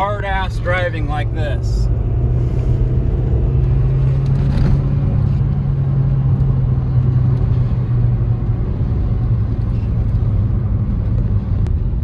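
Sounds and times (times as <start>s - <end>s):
car engine running: 0.0s - 11.5s
road noise: 0.0s - 12.0s.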